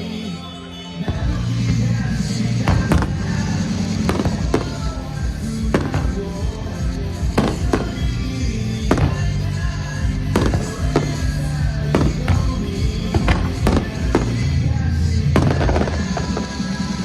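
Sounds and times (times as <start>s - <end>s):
loud music: 0.0s - 17.0s
fireworks bangs: 1.0s - 17.0s.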